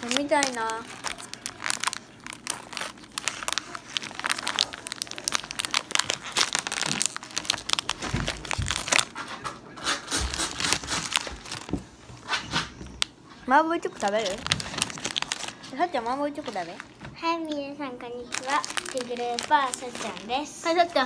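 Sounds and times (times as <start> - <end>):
plastic snack packet crinkling: 0.0 - 11.9, 13.9 - 21.0.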